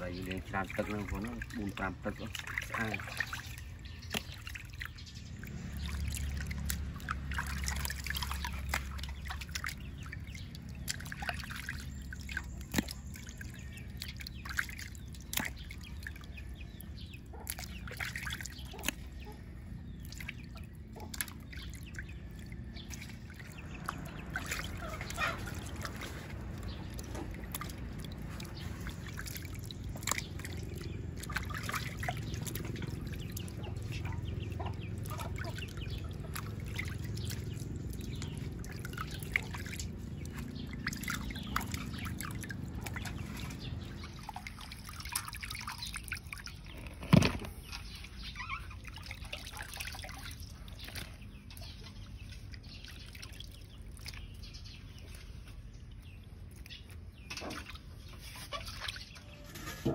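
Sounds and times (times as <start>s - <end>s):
water trickling and dripping: 0.0s - 59.9s.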